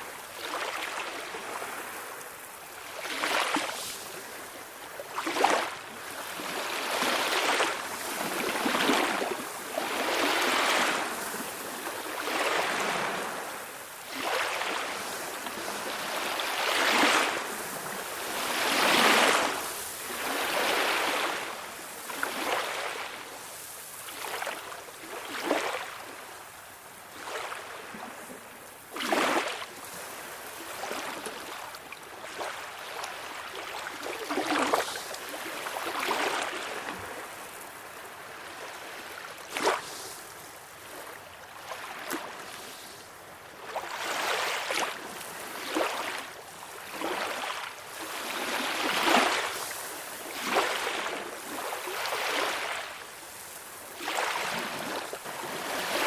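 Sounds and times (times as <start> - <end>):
small waves lapping and splashing: 0.0 - 56.0
surf washing: 0.0 - 56.0.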